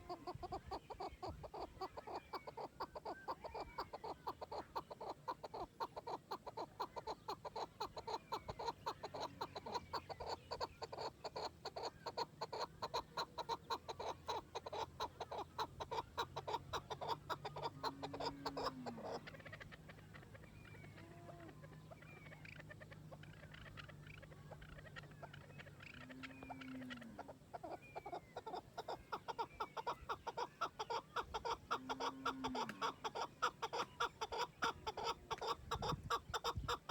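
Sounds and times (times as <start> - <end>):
partridge clucking calls: 0.0 - 36.9.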